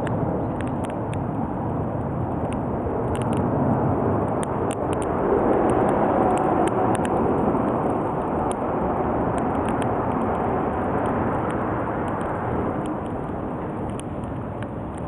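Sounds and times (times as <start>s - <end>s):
campfire crackling and popping: 0.0s - 15.0s
steady rushing noise: 0.0s - 15.0s.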